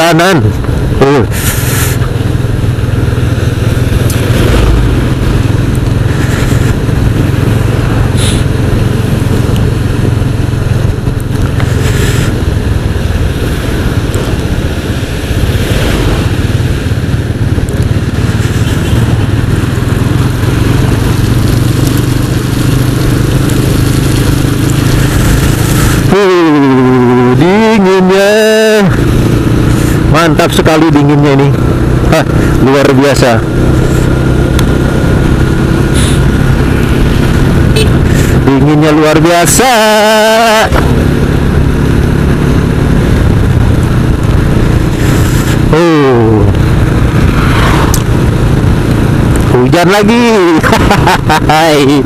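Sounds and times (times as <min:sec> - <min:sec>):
wind rush: 0:00.0 - 0:32.7, 0:33.3 - 0:52.0
motorcycle engine drone: 0:00.0 - 0:52.0
tyre noise on wet road: 0:00.4 - 0:27.6, 0:28.2 - 0:30.4, 0:33.4 - 0:38.8, 0:39.6 - 0:52.0.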